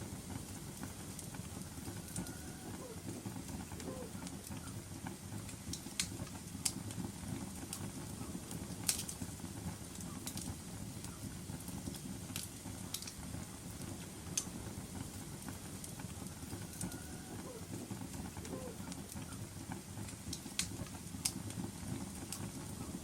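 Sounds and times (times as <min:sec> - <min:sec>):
fire crackling and popping: 0:00.0 - 0:23.0
fire flames rumbling: 0:00.0 - 0:23.0.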